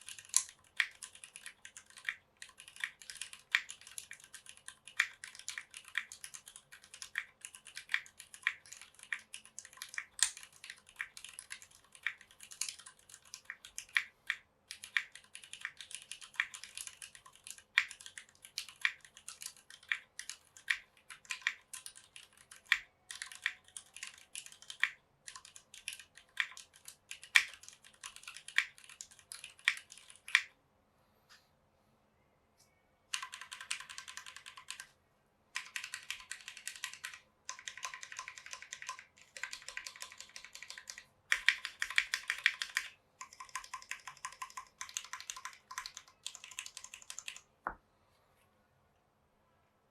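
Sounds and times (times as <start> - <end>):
mechanical keyboard typing: 0.0 - 30.5, 33.1 - 34.9, 35.5 - 47.5.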